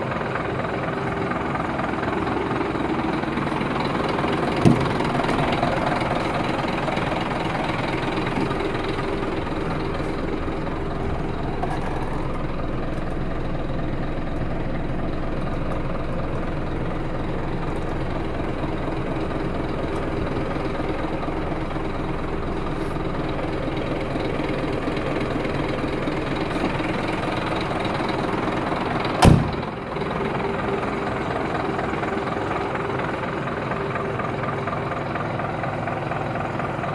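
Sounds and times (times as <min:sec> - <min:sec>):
truck diesel engine idling: 0:00.0 - 0:36.9.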